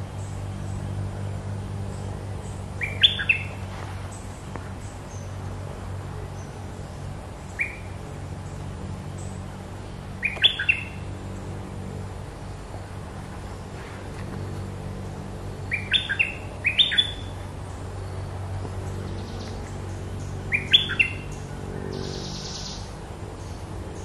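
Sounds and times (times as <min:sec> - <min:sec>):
songbird chirps: 0:00.0 - 0:24.0
steady low hum: 0:00.0 - 0:24.0.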